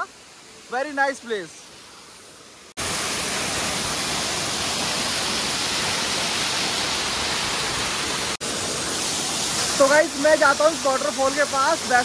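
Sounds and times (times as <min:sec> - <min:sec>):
waterfall rushing onto rocks: 0:00.0 - 0:12.0.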